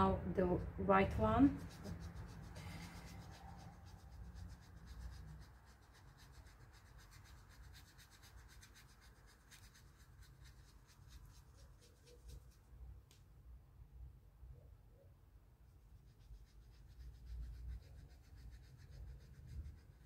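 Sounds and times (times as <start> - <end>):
low steady hum: 0.0 - 20.0
paintbrush rubbing on paper: 0.4 - 12.8, 15.7 - 20.0.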